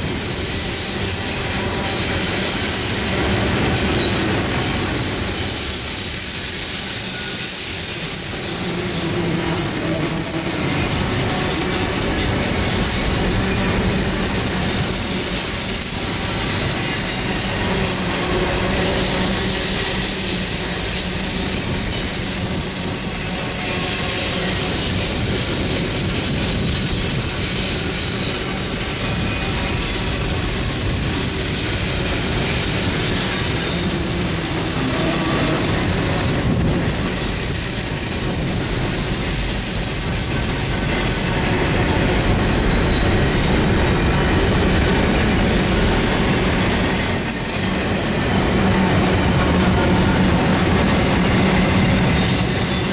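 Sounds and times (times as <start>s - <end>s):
freight train wheels clattering: 0.0s - 52.9s
high-pitched wheel squeals: 0.4s - 4.5s, 6.5s - 12.3s, 13.0s - 41.5s, 44.5s - 49.6s, 51.6s - 52.9s.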